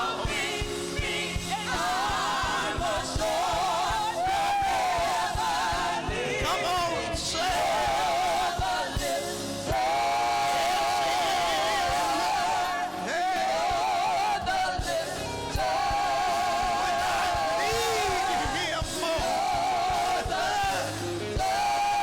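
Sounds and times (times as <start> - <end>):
band with steady beat: 0.0 - 22.0
gospel choir singing: 0.0 - 22.0.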